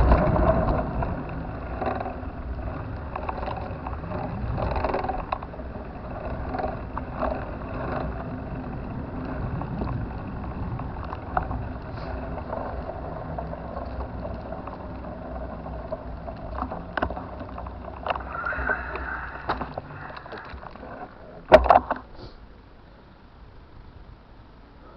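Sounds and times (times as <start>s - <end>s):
wind on microphone: 0.0s - 21.5s
small clicks and knocks: 0.0s - 22.1s
bicycle tyres on road: 0.0s - 24.9s.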